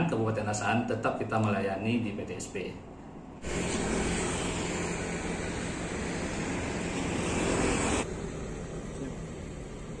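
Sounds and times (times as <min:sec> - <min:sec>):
rushing outdoor background noise: 0:01.8 - 0:10.0.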